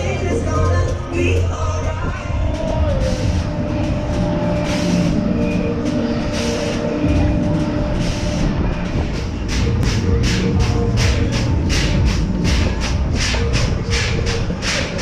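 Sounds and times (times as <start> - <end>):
constant machine hum: 0.0 - 15.0
ride machinery rumble: 0.0 - 15.0.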